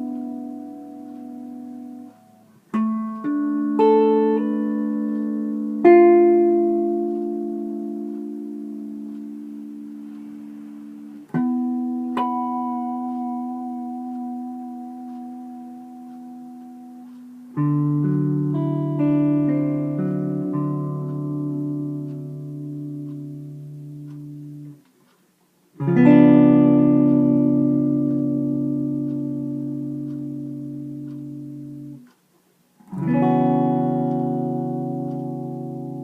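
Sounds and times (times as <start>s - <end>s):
electric guitar chords ringing: 0.0s - 24.8s, 25.8s - 32.1s, 32.8s - 36.0s.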